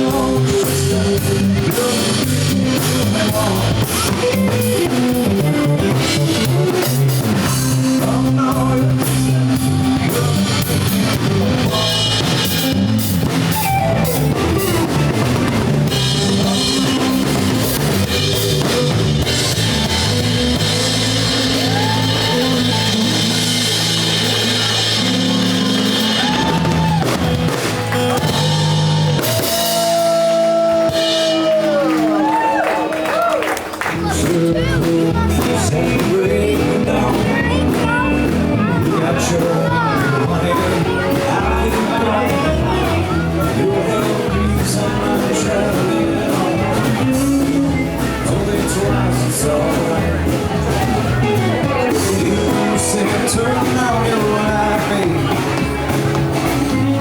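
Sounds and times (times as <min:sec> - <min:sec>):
rock music with drums and guitar: 0:00.0 - 0:33.0, 0:33.6 - 0:57.0.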